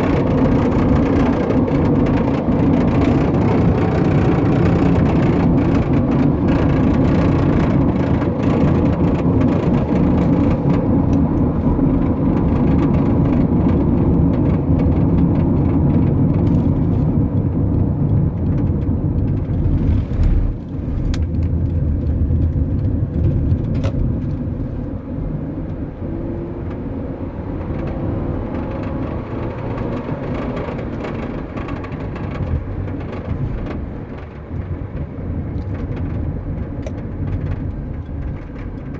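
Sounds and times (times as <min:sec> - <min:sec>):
road and engine noise: 0:00.0 - 0:38.9.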